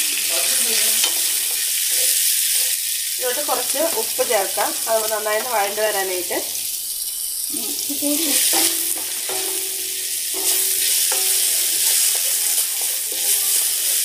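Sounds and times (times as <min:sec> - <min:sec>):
vegetables sizzling in oil: 0:00.0 - 0:14.0
spatula scraping a wok: 0:00.2 - 0:14.0.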